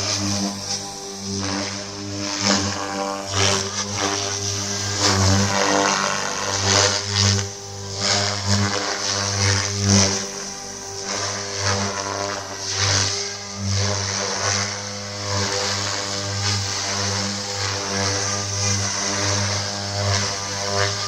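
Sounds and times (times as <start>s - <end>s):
rc helicopter rotor hum and whine: 0.0s - 21.0s.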